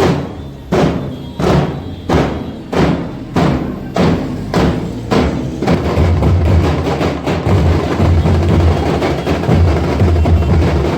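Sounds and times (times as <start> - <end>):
procession drumming: 0.0 - 10.9.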